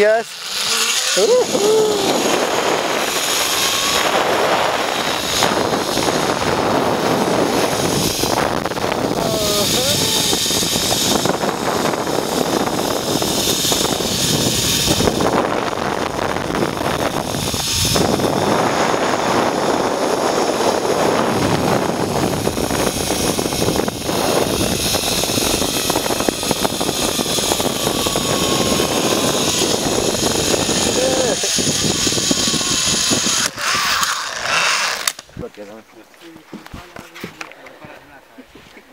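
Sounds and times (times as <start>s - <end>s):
zipline pulleys whirring: 0.0s - 35.3s
wind on microphone: 0.0s - 35.6s.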